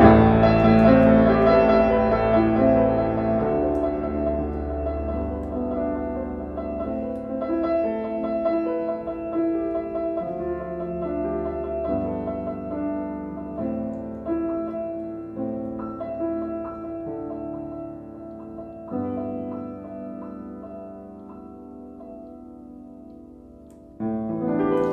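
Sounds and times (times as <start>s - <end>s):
slow piano music: 0.0s - 24.9s.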